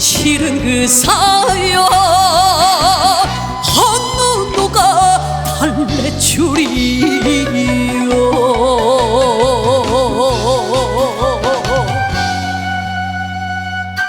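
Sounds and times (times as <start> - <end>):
person singing with vibrato: 0.0 - 13.4
band accompaniment: 0.0 - 14.0.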